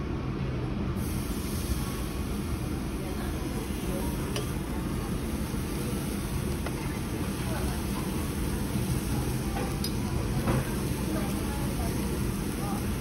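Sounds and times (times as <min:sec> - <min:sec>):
restaurant background rumble: 0:00.0 - 0:13.0.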